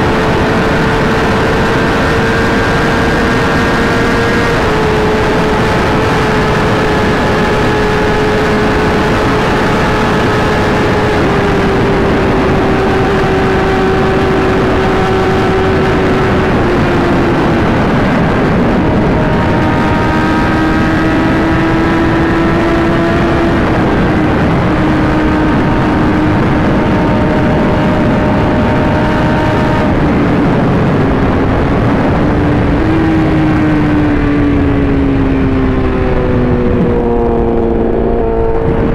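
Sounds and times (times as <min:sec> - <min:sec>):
motorcycle engine cruising: 0:00.0 - 0:38.9
wind rush: 0:00.0 - 0:38.9.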